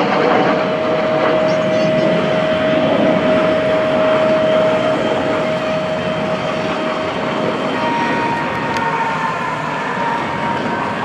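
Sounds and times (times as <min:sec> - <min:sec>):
jet engine rush with whine: 0:00.0 - 0:11.0.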